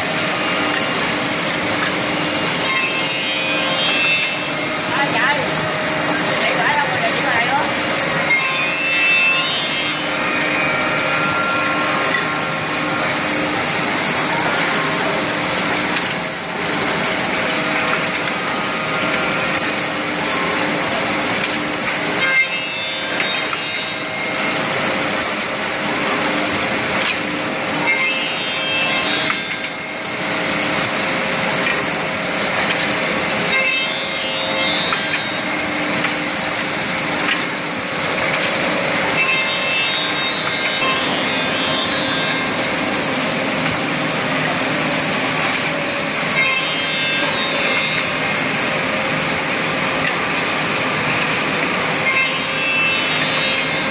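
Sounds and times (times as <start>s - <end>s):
electric motors humming: 0.0s - 53.9s.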